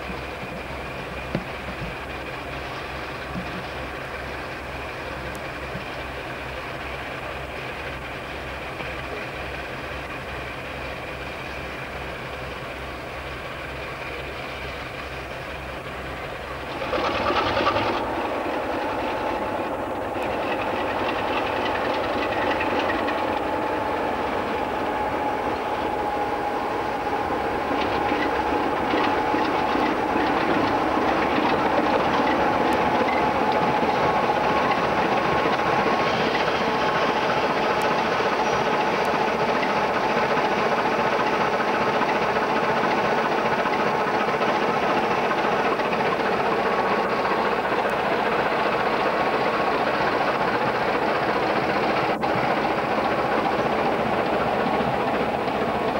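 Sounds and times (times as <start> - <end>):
diesel locomotive engine: 0.0 - 55.9.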